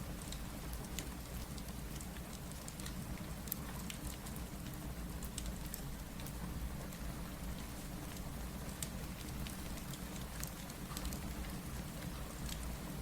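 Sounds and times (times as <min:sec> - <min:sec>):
fireplace crackling and popping: 0:00.0 - 0:13.0
steady rain patter: 0:00.0 - 0:13.0.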